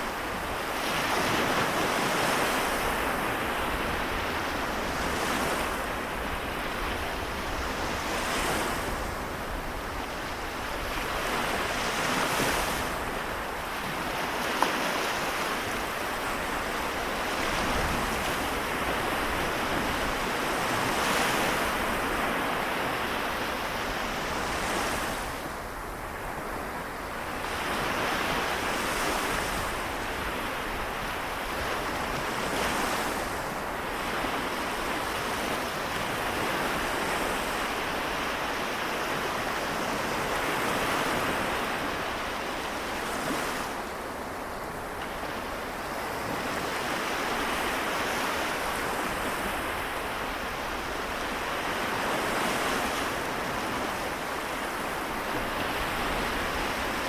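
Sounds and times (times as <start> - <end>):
waves washing onto shore: 0.0 - 57.0.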